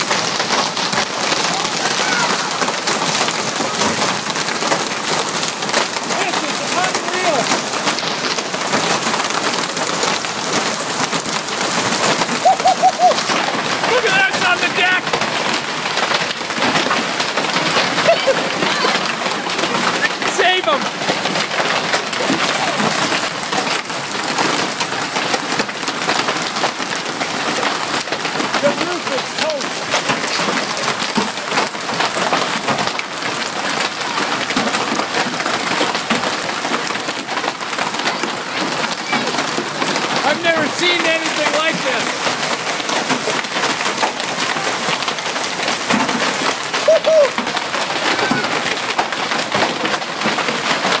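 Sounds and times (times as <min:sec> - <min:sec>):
hailstones clattering: 0:00.0 - 0:51.0.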